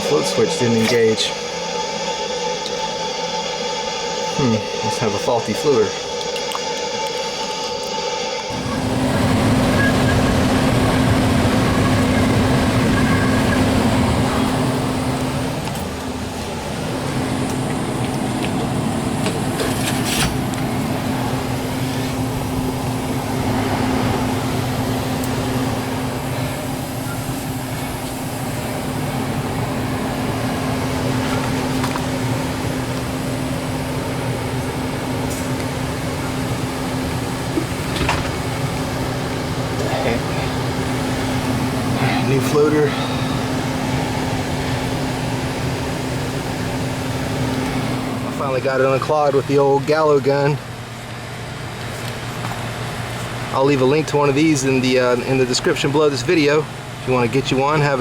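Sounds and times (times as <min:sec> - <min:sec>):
air conditioner humming: 0:00.0 - 0:58.0.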